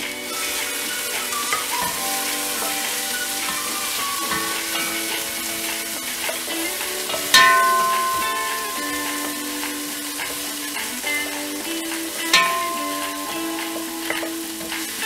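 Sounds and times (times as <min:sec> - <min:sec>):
background music: 0:00.0 - 0:15.0
onions sizzling in oil: 0:00.0 - 0:15.0.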